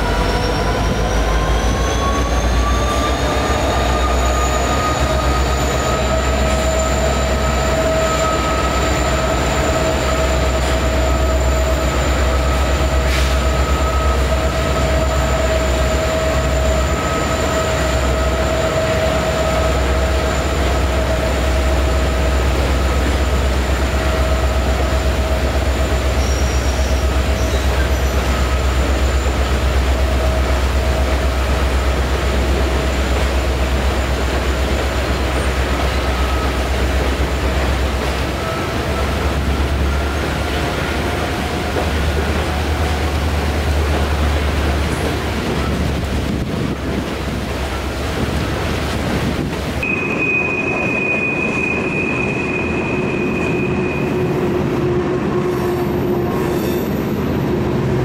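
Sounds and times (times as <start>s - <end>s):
high-pitched multi-tone whine: 0.0s - 45.8s, 49.8s - 54.9s
freight train rumble on steel bridge: 0.0s - 58.0s.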